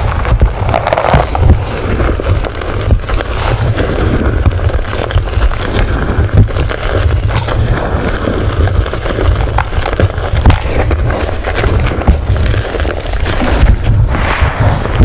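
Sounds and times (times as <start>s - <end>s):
chalk crunching and crackling: 0.0s - 15.0s
steady low rumble: 0.0s - 15.0s.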